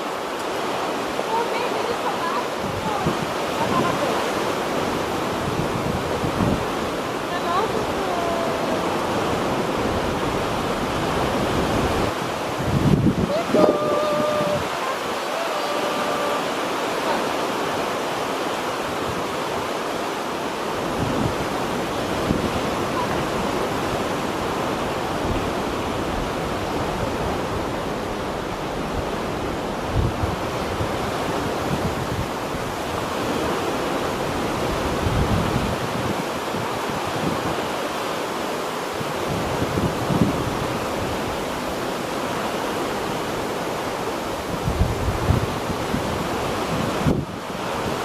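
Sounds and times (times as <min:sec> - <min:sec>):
sea waves washing: 0:00.0 - 0:48.0
wind buffeting microphone: 0:00.0 - 0:48.0.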